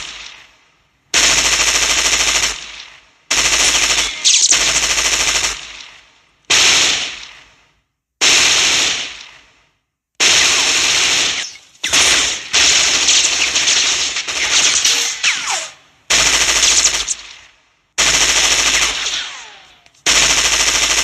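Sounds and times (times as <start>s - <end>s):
machine-gun fire: 0.0s - 21.0s.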